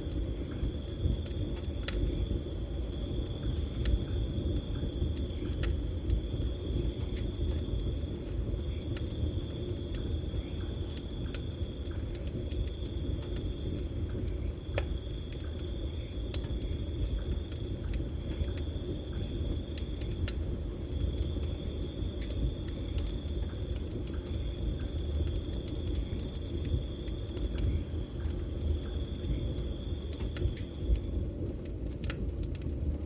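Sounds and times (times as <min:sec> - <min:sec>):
campfire crackling and popping: 0:00.0 - 0:33.0
crickets chirping: 0:00.0 - 0:33.0.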